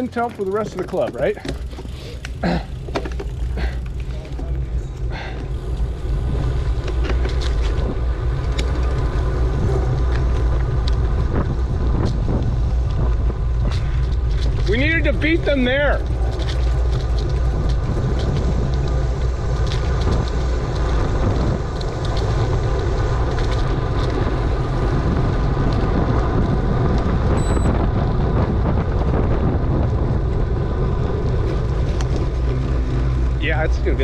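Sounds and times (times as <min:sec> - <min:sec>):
bicycle tyres rolling on pavement: 0:00.0 - 0:34.0
wind buffeting microphone: 0:00.0 - 0:34.0.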